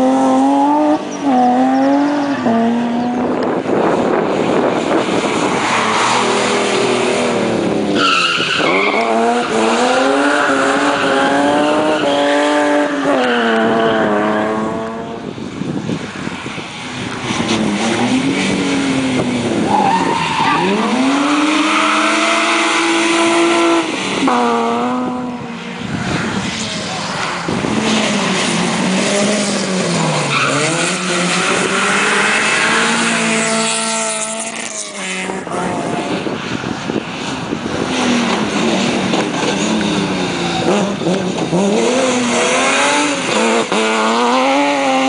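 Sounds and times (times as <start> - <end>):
rally cars passing at full throttle: 0.0 - 45.0.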